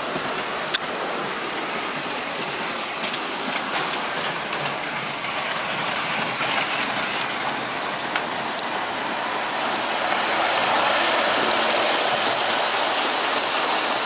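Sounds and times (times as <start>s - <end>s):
model train wheels whirring: 0.0s - 14.0s.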